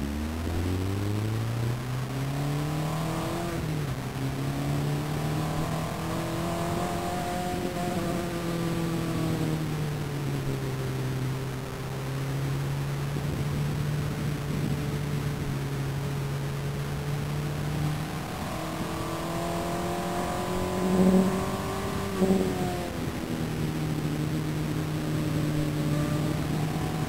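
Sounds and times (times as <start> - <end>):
race car engine: 0.0 - 27.0.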